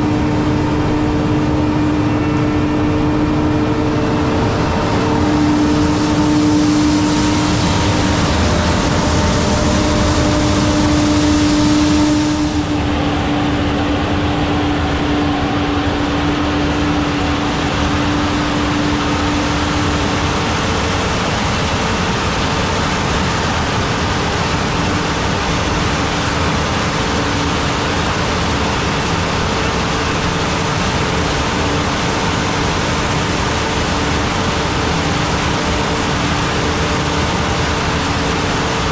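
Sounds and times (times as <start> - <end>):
steady hum: 0.0 - 38.9
vehicle engine running: 0.0 - 38.9.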